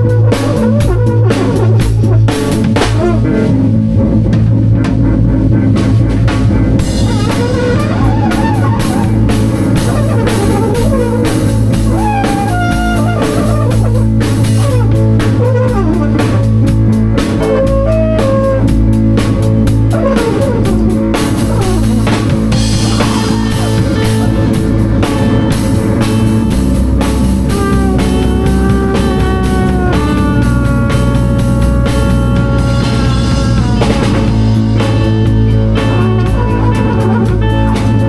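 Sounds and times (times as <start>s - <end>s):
drum kit with cymbals: 0.0s - 38.0s
guitar lead lines: 0.0s - 38.0s
held low bass note: 0.0s - 38.0s.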